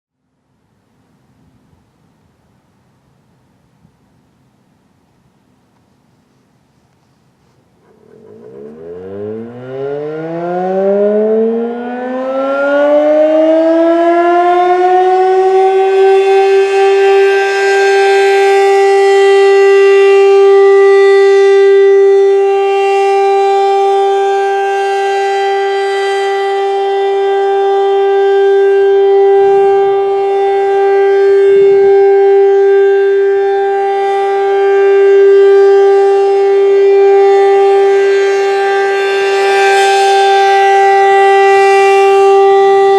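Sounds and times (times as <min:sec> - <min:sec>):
warning siren wailing: 0:07.8 - 0:42.9.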